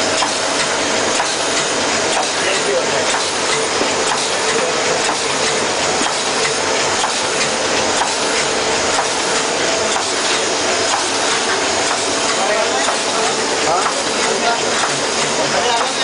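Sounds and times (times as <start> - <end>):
machine mechanical clatter: 0.0 - 16.0.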